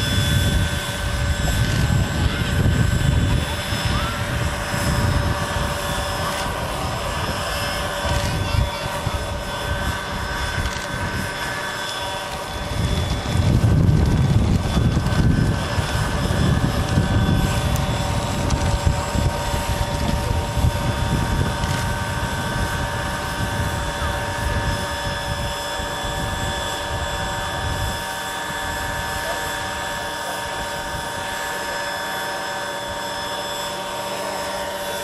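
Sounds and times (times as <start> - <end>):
wind rumble on microphone: 0.0 - 31.5
electric motor whine: 0.0 - 35.0
rotor whoosh: 0.0 - 35.0.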